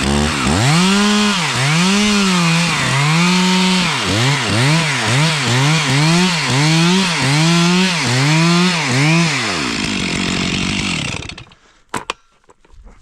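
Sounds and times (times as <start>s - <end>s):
chainsaw running at high revs: 0.0s - 11.6s.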